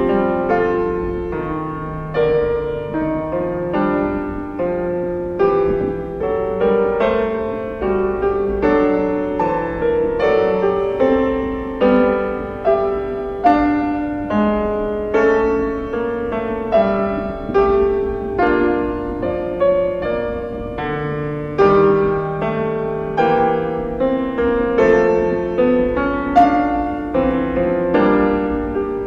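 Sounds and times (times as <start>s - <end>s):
slow gentle piano piece: 0.0s - 29.0s.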